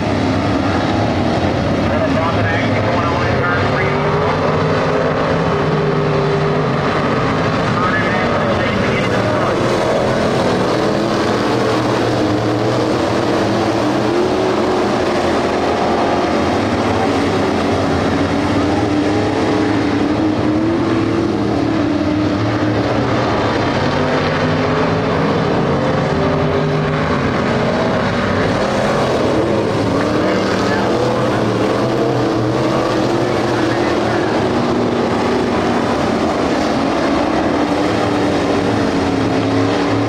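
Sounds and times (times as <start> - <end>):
race car engines revving: 0.0 - 40.0.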